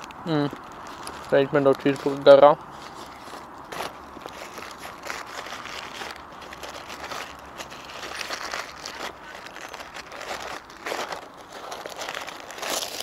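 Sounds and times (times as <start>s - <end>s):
paper wrapper crinkling: 0.0s - 13.0s.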